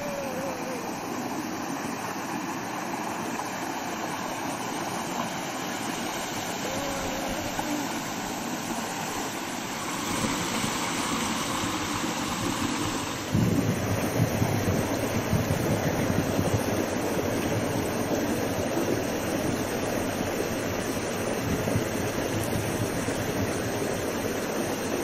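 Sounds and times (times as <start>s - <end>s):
meltwater rushing: 0.0s - 25.0s.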